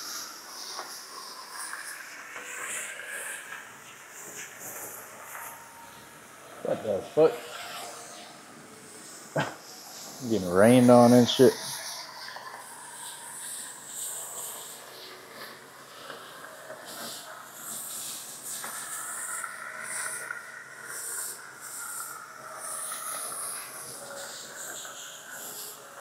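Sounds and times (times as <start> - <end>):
water hissing and spattering: 0.0 - 25.9.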